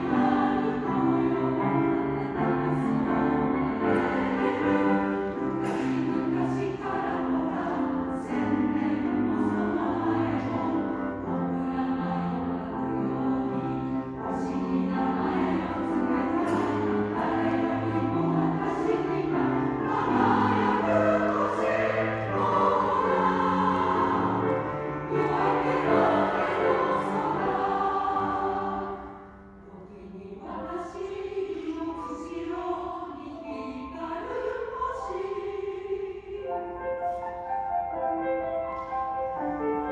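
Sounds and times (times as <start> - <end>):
choirs singing: 0.0 - 39.9.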